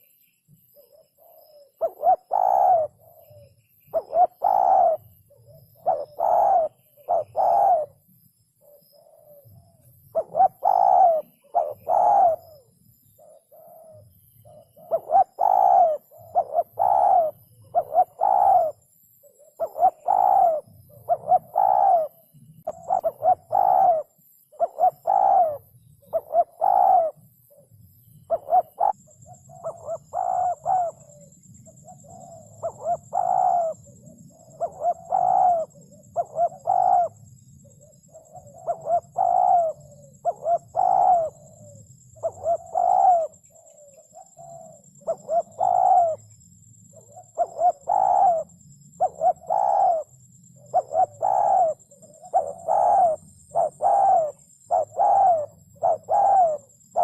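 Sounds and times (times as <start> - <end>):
dove cooing: 0.7 - 57.0.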